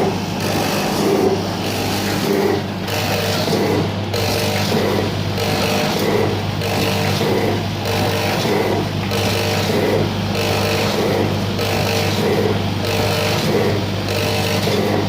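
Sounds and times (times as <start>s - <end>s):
packing machine working cycle: 0.0s - 15.0s
steady motor hum: 0.0s - 15.0s.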